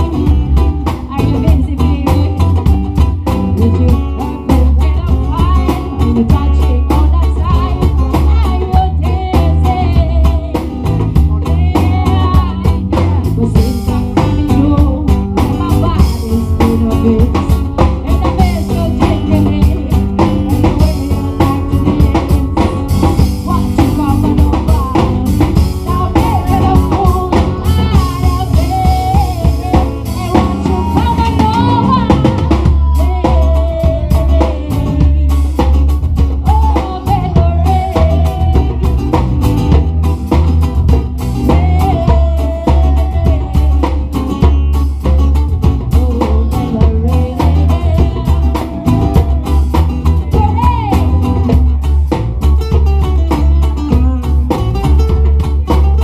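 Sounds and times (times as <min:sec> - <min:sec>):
woman singing into microphone: 0:00.0 - 0:39.8, 0:41.3 - 0:51.8, 0:53.4 - 0:55.9
acoustic guitar: 0:00.0 - 0:56.0
drums: 0:00.0 - 0:56.0
heavy bass line: 0:00.0 - 0:56.0.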